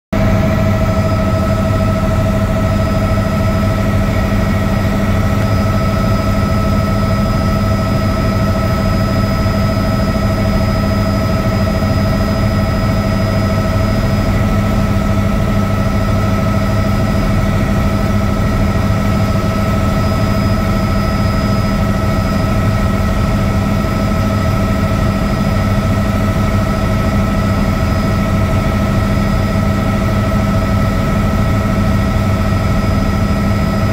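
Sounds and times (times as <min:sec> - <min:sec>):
helicopter engine and rotor drone: 0:00.1 - 0:33.9
constant whining tones: 0:00.2 - 0:33.9.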